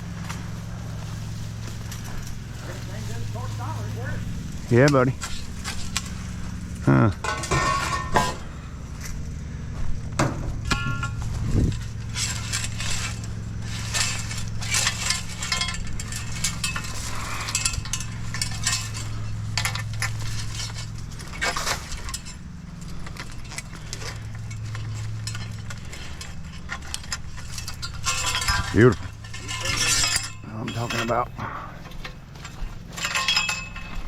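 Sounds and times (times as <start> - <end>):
scrap metal clanking: 0.0 - 9.2, 10.1 - 34.0
engine running: 0.0 - 34.0.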